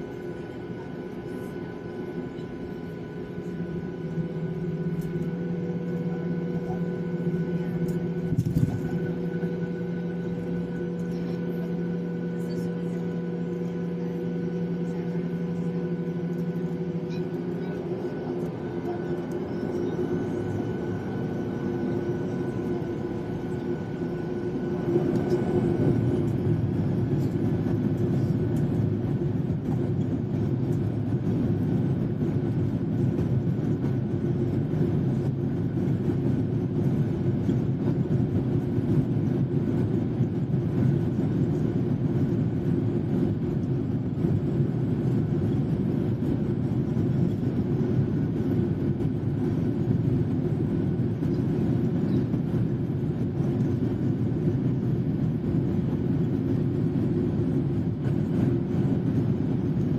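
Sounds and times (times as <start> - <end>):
high steady engine whine: 0.0 - 59.9
jet engines droning: 0.0 - 59.9.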